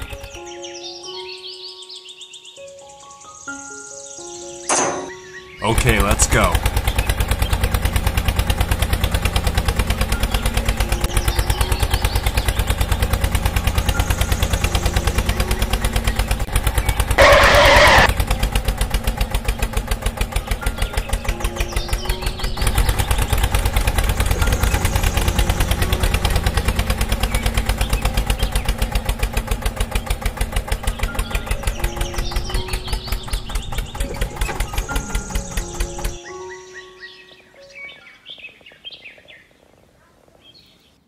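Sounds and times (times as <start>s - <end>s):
tractor engine idling: 0.0s - 1.3s, 4.6s - 38.7s.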